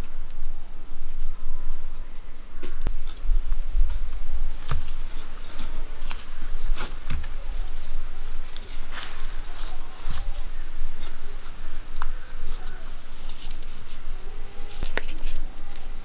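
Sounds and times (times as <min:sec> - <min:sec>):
leaf wrappers rustling and crinkling: 0:02.6 - 0:16.0.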